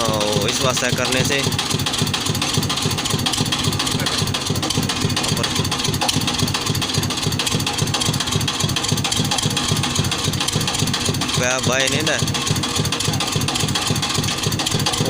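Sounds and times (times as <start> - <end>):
well boring machine engine pulsing: 0.0 - 15.0.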